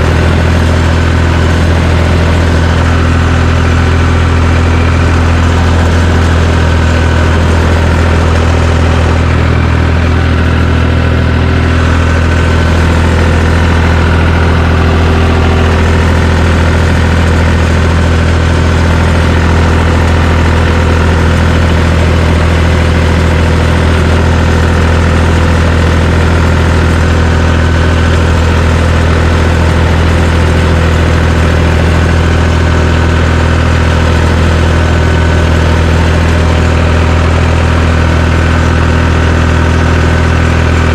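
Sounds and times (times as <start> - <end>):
dozer engine humming steadily: 0.0 - 40.9.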